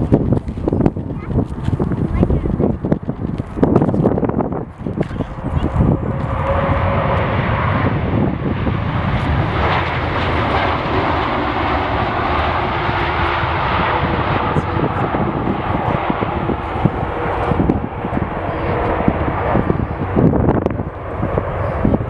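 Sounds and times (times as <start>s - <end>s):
jet engines roaring: 0.0s - 22.0s
wind rumbling on microphone: 0.0s - 22.0s.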